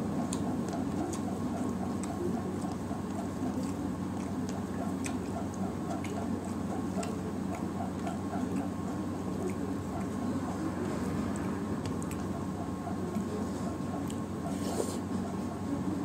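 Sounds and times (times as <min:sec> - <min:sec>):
fingers mixing wet food: 0:00.0 - 0:16.0
steady background hum: 0:00.0 - 0:16.0.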